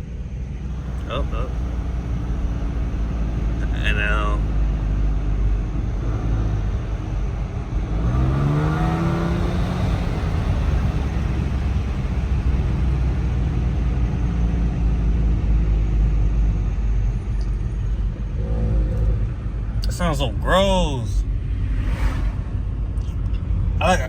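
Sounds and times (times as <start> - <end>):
car exhaust droning: 0.0 - 24.0.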